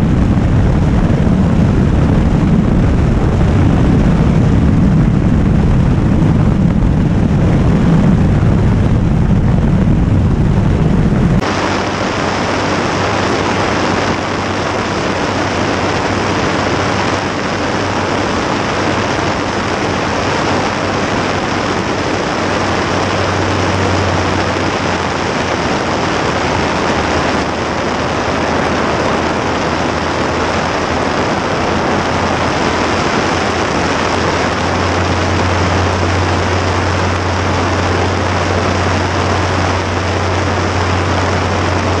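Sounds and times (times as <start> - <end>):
propeller engine droning: 0.0 - 42.0
wind rushing over camera: 0.0 - 42.0.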